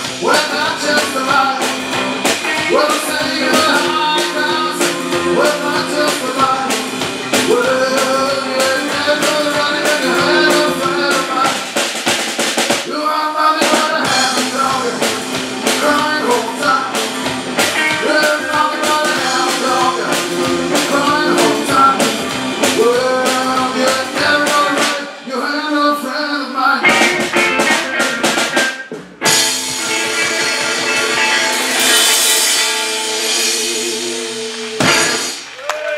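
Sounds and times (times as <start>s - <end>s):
electric guitar: 0.0s - 12.5s, 13.7s - 35.9s
drum kit snare beat: 0.0s - 12.9s, 13.6s - 25.1s, 26.8s - 35.6s.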